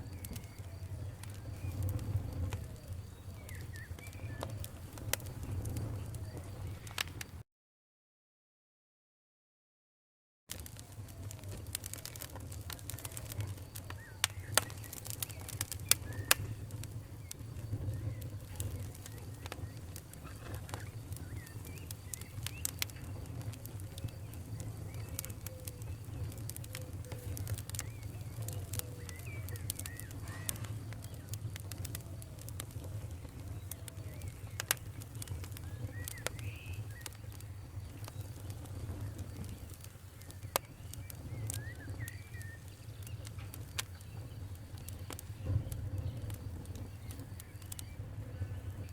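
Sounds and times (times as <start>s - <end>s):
wood fire crackling: 0.0s - 7.4s, 10.5s - 48.9s.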